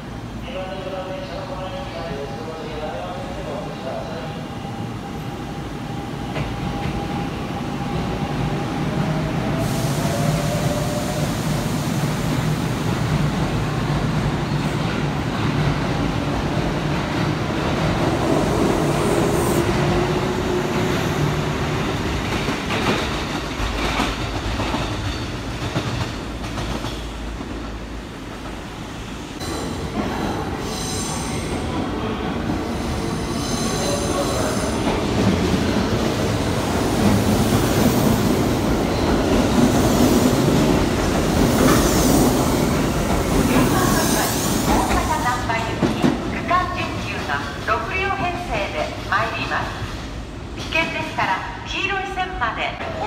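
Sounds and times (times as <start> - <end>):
train wheels rumbling on rails: 5.1 - 49.1.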